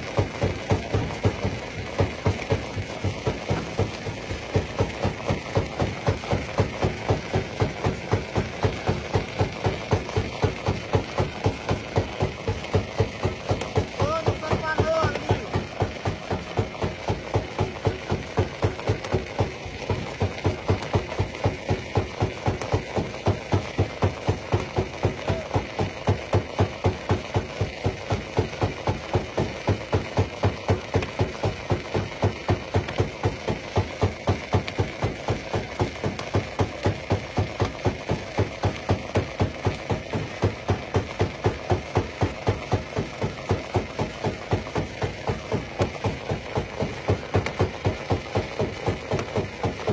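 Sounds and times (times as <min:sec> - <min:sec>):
stone crusher thumping: 0:00.0 - 0:49.9.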